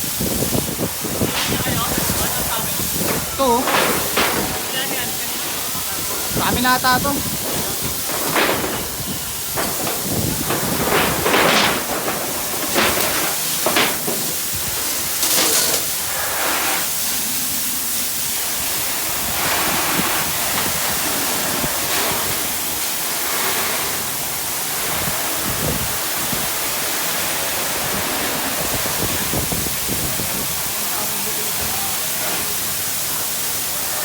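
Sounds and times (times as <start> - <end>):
water spraying from fire hose: 0.0 - 34.0.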